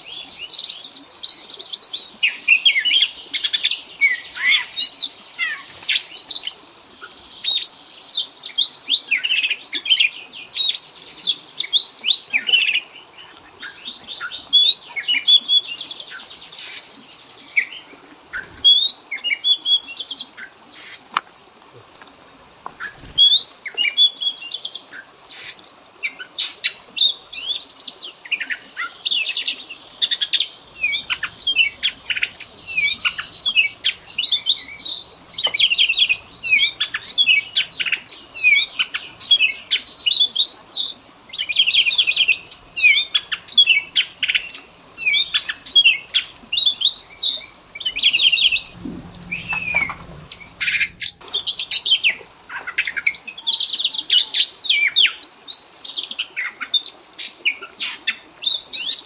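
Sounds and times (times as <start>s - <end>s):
bird singing varied song: 0.0s - 21.6s, 22.4s - 59.0s.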